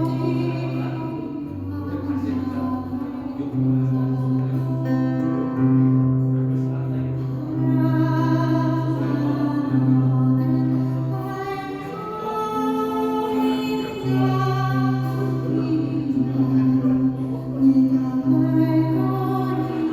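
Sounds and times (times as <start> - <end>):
woman singing a slow ballad: 0.0 - 19.9.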